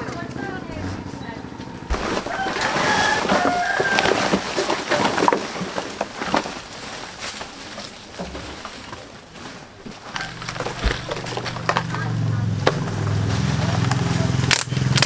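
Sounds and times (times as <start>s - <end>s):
plastic bags rustling: 1.9s - 15.0s.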